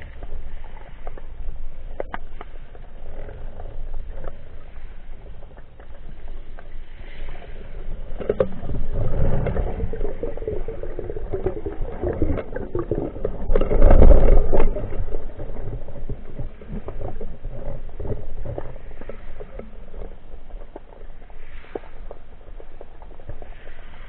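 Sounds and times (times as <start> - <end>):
water rushing underwater: 0.0 - 24.0.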